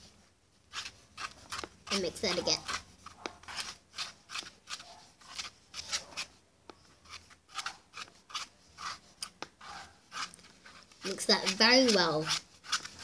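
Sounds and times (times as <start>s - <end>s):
spoon scraping in a bowl: 0.7s - 13.0s.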